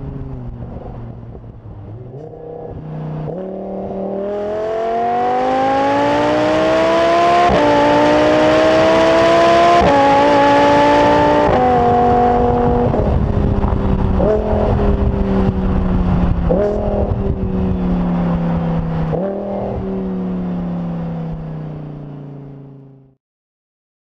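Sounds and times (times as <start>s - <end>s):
sports car exhaust decelerating: 0.0s - 23.1s.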